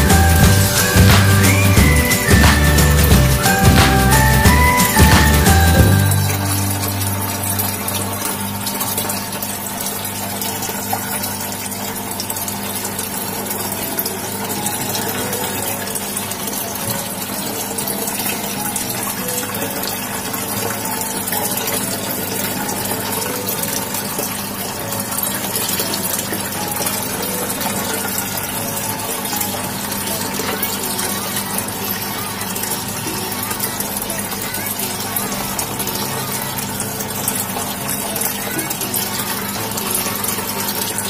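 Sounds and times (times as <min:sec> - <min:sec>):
aquarium pump bubbling water: 0:00.0 - 0:41.0.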